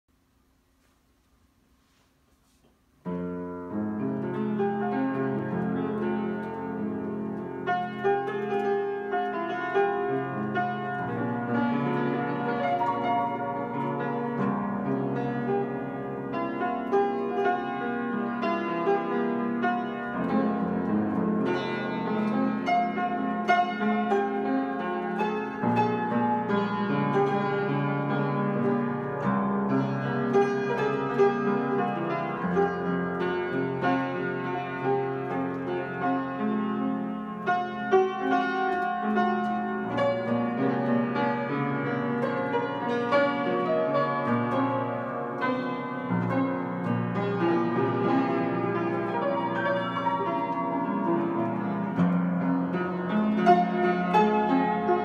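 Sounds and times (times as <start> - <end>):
piano melody over chords: 3.0 - 55.0.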